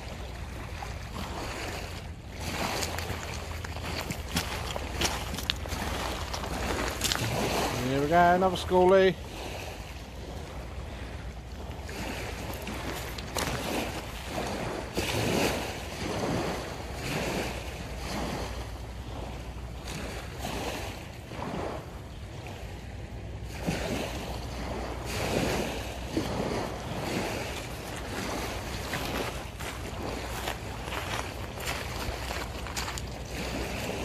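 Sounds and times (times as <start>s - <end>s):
small waves washing on shore: 0.0s - 34.0s
wind on microphone: 0.0s - 34.0s.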